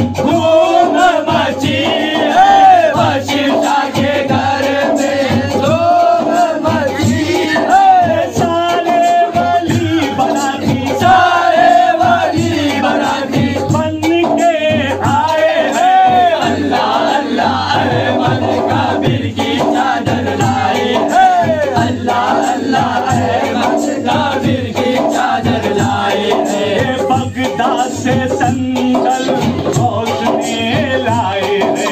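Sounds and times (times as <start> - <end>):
man singing into a microphone: 0.0 - 31.9
men singing together: 0.0 - 31.9.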